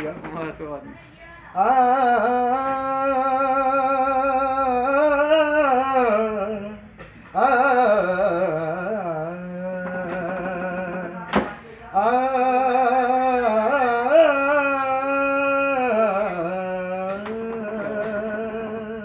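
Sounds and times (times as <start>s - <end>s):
man singing long notes: 1.6s - 11.3s, 11.9s - 19.0s.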